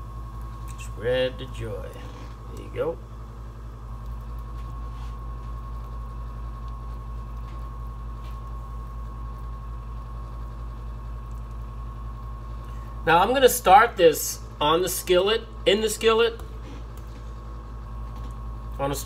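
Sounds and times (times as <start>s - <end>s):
high whine: 0.0s - 19.0s
low machine hum: 0.0s - 19.0s.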